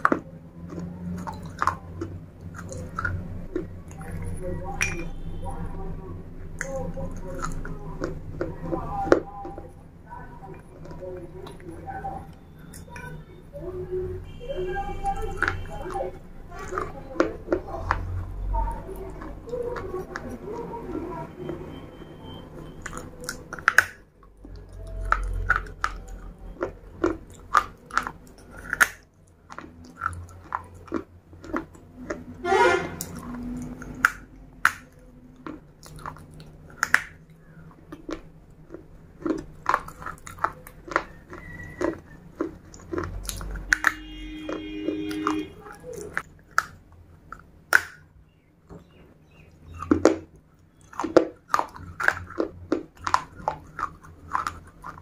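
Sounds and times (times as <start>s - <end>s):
crunching and chewing clay: 0.0s - 55.0s.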